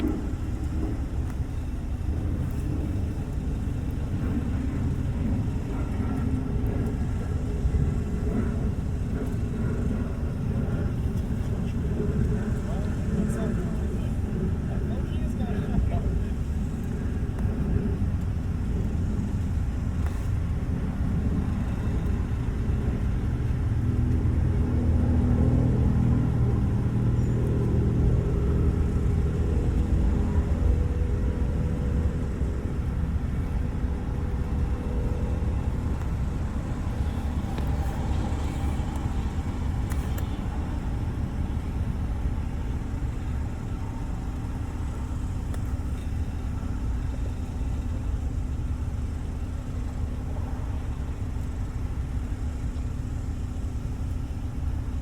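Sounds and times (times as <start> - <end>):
motor vehicle engine rumbling: 0.0 - 55.0.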